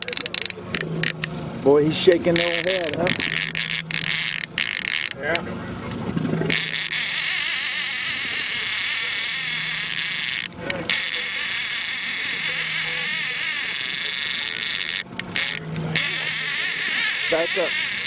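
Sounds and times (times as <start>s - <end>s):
fishing reel drag screaming: 0.0s - 1.3s, 2.0s - 5.4s, 6.5s - 18.0s.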